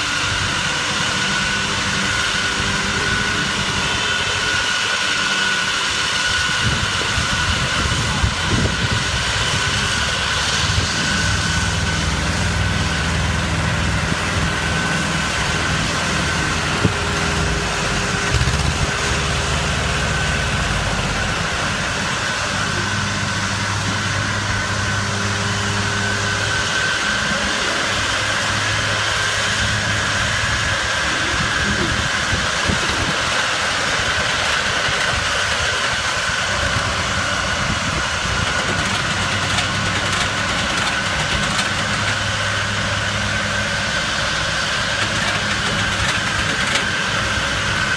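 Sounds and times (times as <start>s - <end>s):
thin steady whine: 0.0s - 47.9s
tractor diesel engine running: 0.0s - 47.9s.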